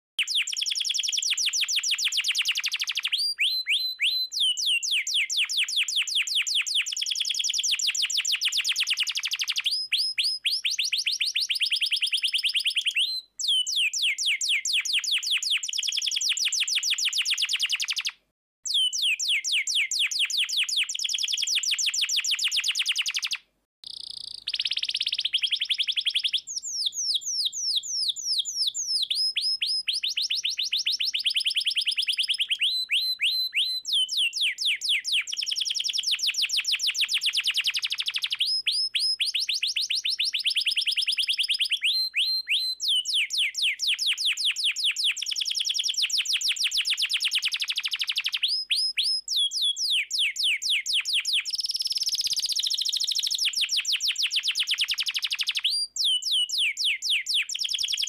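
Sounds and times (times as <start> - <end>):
canary singing trills: 0.2 - 58.0.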